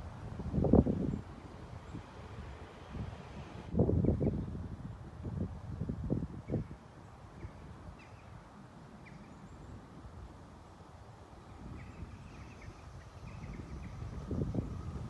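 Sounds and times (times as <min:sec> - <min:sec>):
low outdoor hum: 0:00.0 - 0:15.0
wind buffeting microphone: 0:00.0 - 0:15.0.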